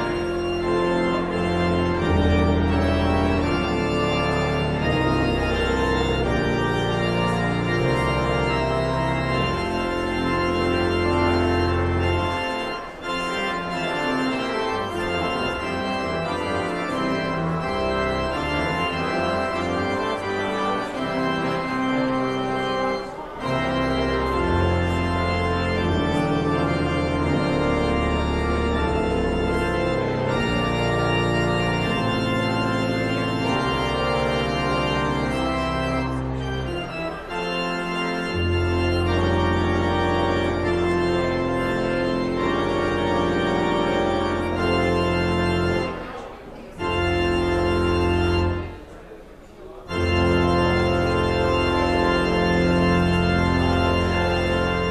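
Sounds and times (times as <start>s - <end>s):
deep organ pedal bass: 0.0s - 48.8s, 49.8s - 54.9s
pipe organ chords: 0.0s - 54.9s.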